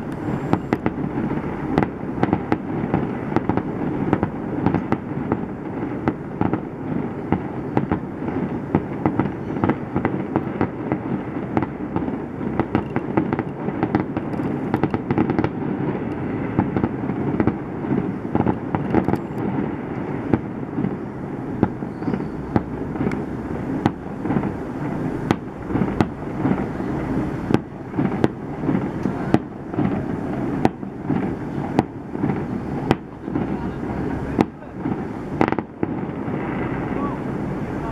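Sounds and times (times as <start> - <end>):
fireworks bangs and crackles: 0.0 - 37.9.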